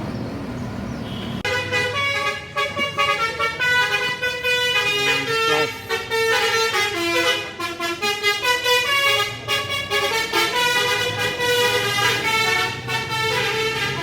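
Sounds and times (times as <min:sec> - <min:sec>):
bus air horns playing tune: 0:01.1 - 0:14.0.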